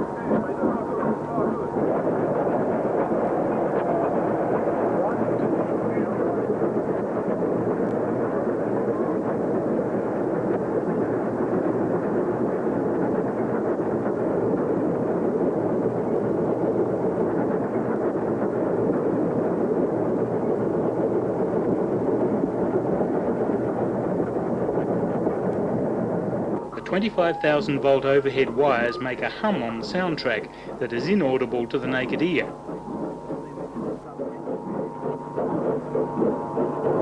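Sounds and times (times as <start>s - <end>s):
steam train rumble: 0.0s - 37.0s.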